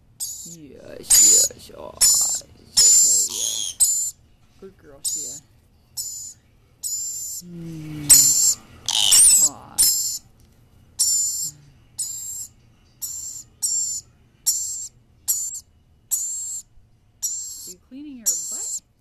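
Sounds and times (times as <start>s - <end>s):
parrots squeaking: 0.2s - 4.2s, 5.0s - 5.4s, 6.0s - 7.5s, 8.1s - 10.2s, 11.0s - 18.9s.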